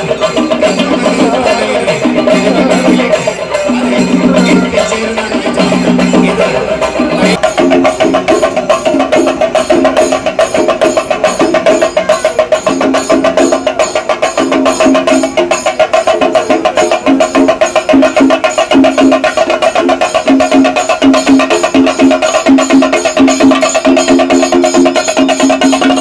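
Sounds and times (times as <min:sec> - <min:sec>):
drums beaten with sticks: 0:00.0 - 0:26.0.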